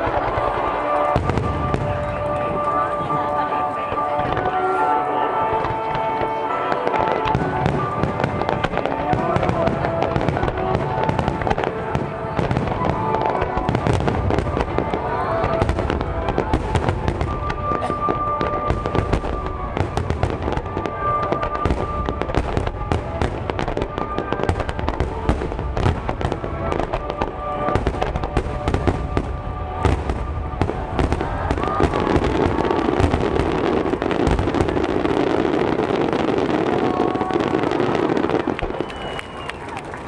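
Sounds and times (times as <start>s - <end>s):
music over loudspeakers: 0.0s - 38.6s
fireworks bursting: 0.0s - 40.0s.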